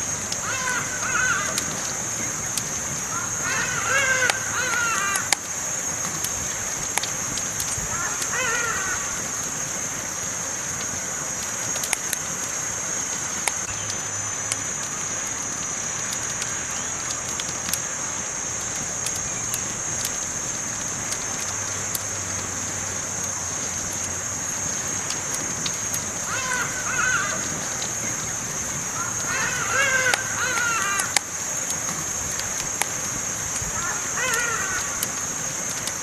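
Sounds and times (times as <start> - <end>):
campfire crackling and popping: 0.0 - 36.0
high-pitched hiss: 0.0 - 36.0.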